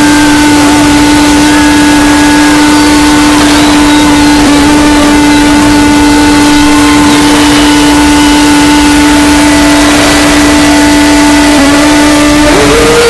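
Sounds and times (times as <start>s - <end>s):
distorted buzzing tone: 0.0s - 13.0s.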